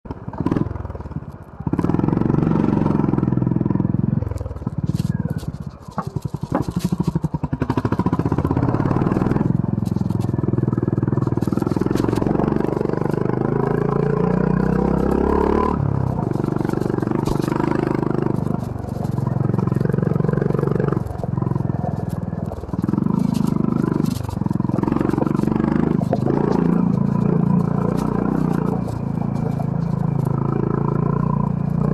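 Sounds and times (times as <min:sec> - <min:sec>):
motorcycle engine under throttle: 0:00.1 - 0:31.9
clicks and scrapes from trail: 0:00.3 - 0:31.9.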